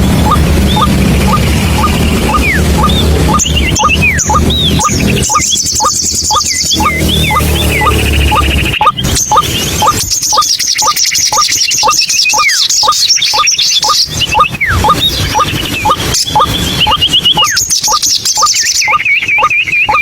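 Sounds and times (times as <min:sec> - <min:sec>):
birds chirping and whistling: 0:00.0 - 0:20.0
waterhen calling: 0:00.0 - 0:20.0.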